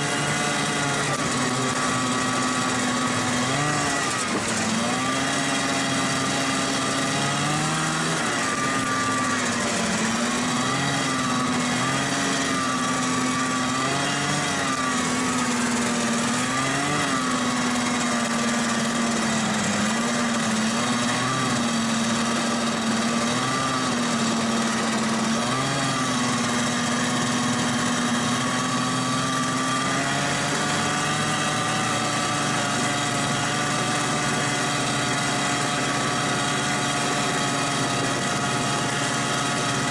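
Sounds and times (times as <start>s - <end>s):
snowmobile engine: 0.0s - 39.9s.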